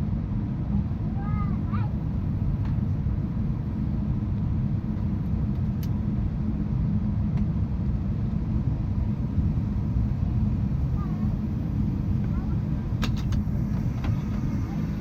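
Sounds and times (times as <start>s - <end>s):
low rumble in aircraft cabin: 0.0s - 15.0s.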